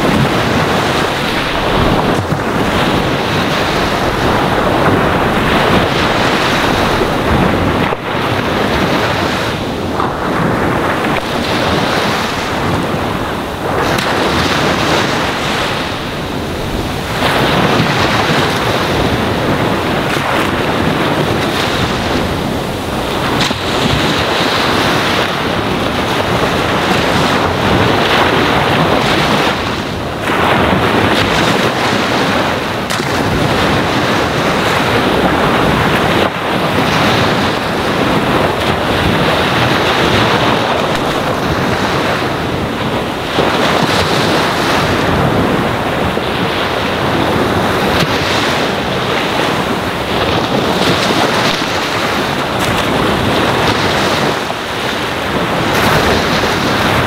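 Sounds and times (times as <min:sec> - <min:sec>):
ocean waves on shore: 0:00.0 - 0:57.0.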